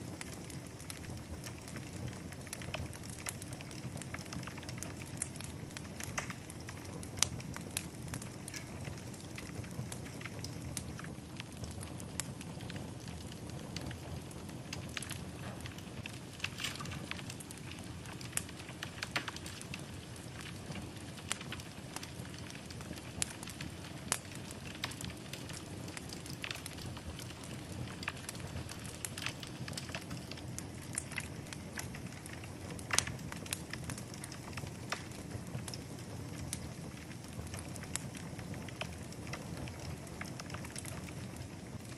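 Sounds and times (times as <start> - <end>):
fire crackling and popping: 0.0 - 41.9
low rush of flames: 0.0 - 41.9.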